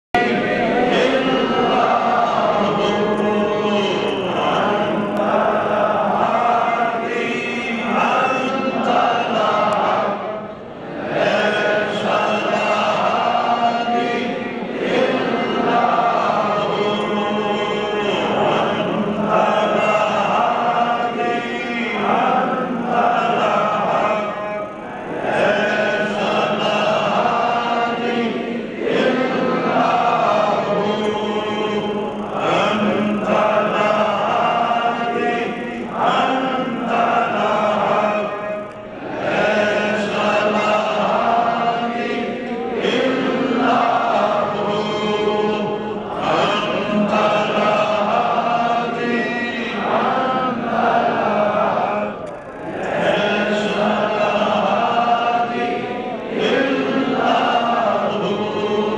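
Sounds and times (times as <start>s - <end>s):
men chanting together: 0.2s - 58.9s.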